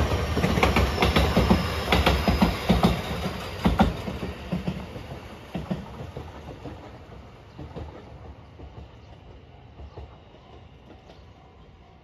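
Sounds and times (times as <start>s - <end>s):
train wheels clacking over joints: 0.0s - 11.4s.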